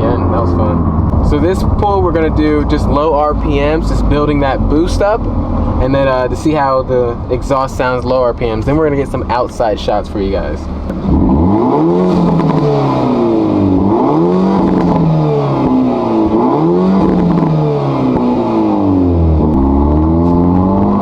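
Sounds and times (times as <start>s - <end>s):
car exhaust note: 0.0s - 21.0s.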